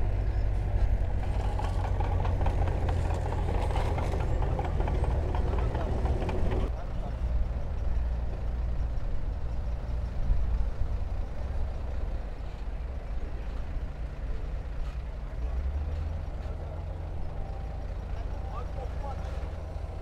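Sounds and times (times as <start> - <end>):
diesel engine low rumble: 0.0 - 20.0.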